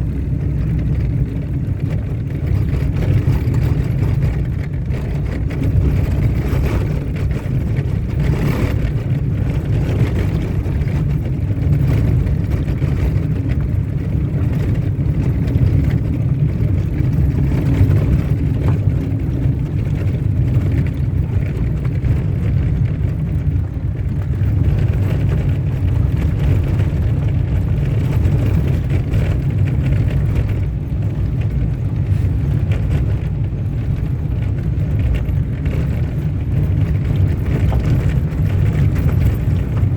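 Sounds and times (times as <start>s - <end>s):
car driving on dirt road: 0.0s - 39.9s.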